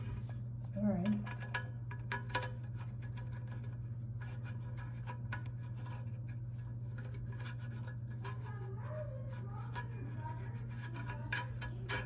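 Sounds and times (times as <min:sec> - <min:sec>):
plastic rubbing: 0:00.0 - 0:12.0
steady low hum: 0:00.0 - 0:12.0.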